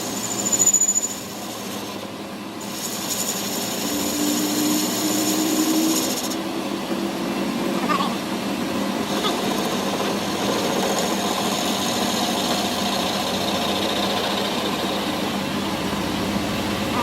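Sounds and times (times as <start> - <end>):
workshop machine running: 0.0 - 17.0.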